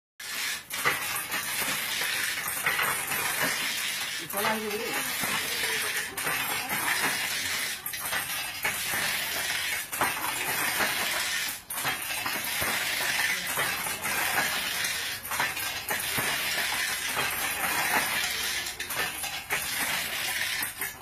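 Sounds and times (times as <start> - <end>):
handloom mechanical clatter: 0.2 - 21.0
loom beater knocking: 0.2 - 21.0.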